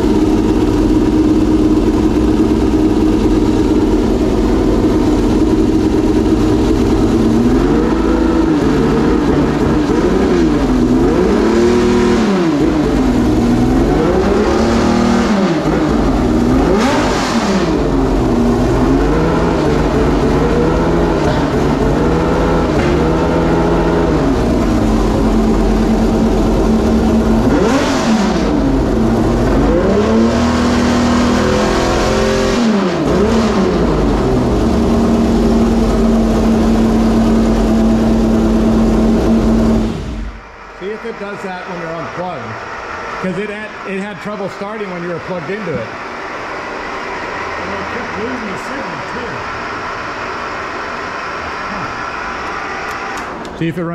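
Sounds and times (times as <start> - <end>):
race engine revving and idling: 0.0 - 53.9.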